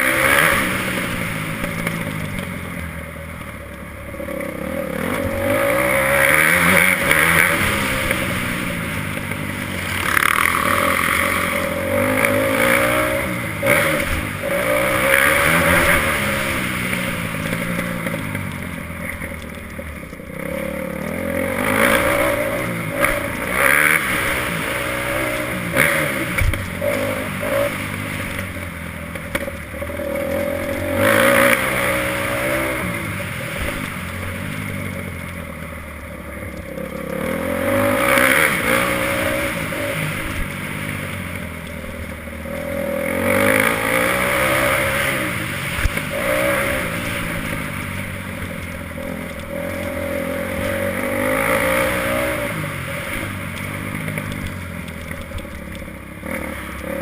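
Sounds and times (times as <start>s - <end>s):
motocross bike engine revving: 0.0s - 2.9s, 4.0s - 57.0s.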